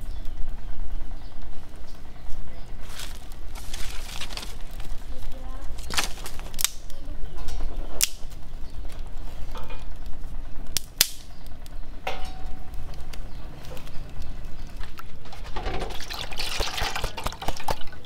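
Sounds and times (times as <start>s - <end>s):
steady low rumble: 0.0s - 15.7s.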